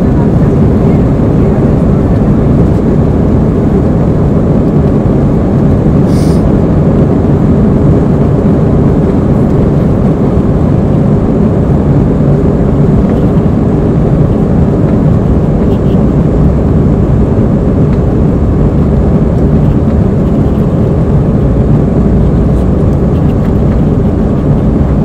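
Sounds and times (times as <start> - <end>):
jet engines during takeoff roll: 0.0 - 25.0
jet rumbling on runway: 0.0 - 25.0.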